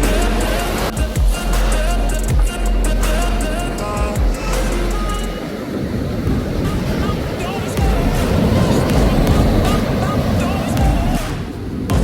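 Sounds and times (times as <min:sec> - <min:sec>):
background music: 0:00.0 - 0:12.0
breaking surf: 0:00.0 - 0:12.0.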